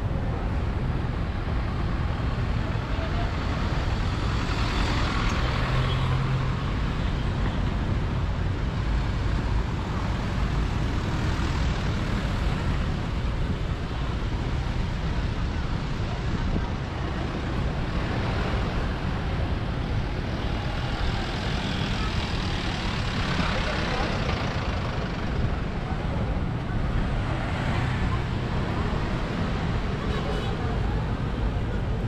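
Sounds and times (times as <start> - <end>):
city traffic hum: 0.0 - 32.0.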